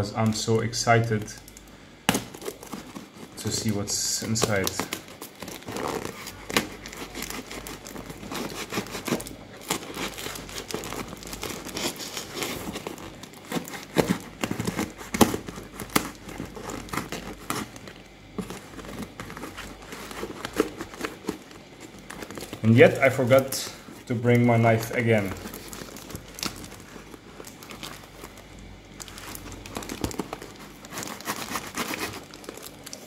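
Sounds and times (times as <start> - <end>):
plastic parcel wrapping crinkling: 0.0 - 33.0.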